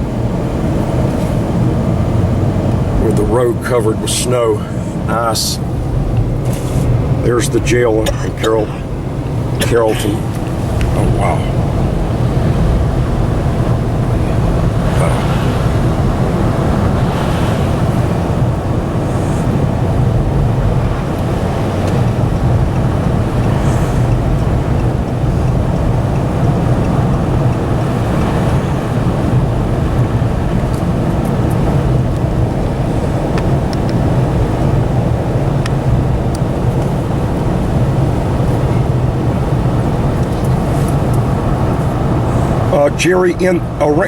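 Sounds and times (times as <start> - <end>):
in-cab engine and road noise: 0.0 - 44.0.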